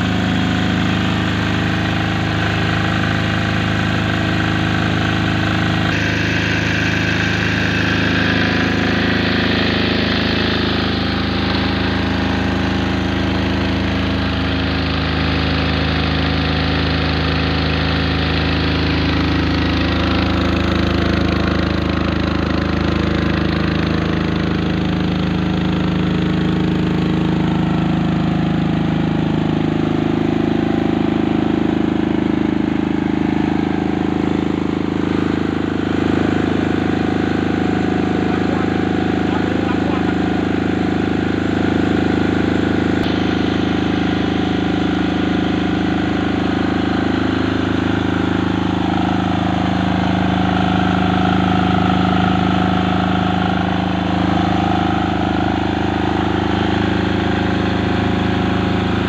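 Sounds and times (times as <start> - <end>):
generator running: 0.0 - 59.0.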